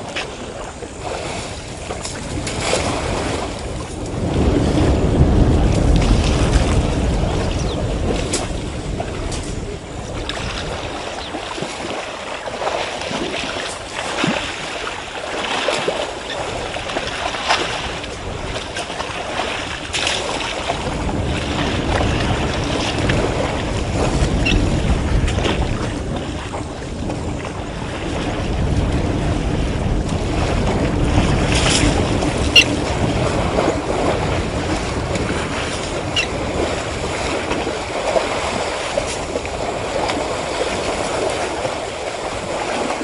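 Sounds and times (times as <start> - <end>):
elephants splashing in water: 0.0 - 43.0
wind buffeting microphone: 0.0 - 43.0.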